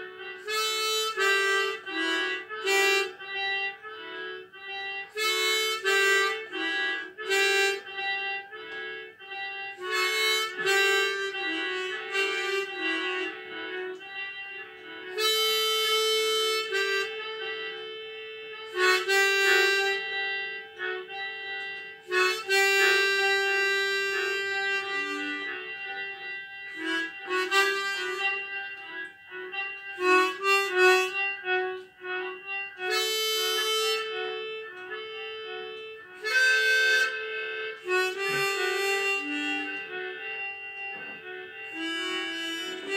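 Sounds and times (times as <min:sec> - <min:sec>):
harmonica playing slow melody: 0:00.0 - 0:42.9.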